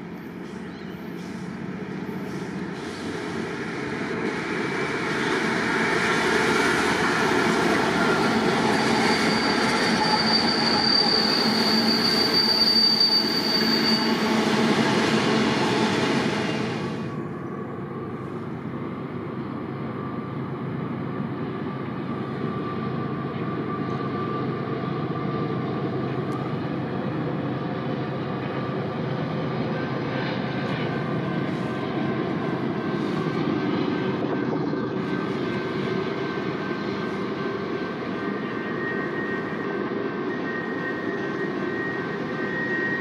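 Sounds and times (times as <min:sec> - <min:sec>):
distant diesel locomotive drone: 0:00.0 - 0:43.0.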